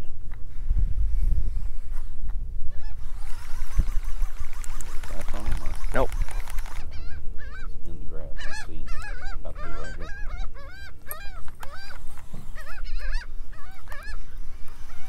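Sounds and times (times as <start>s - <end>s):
flock of birds calling: 2.7s - 15.0s.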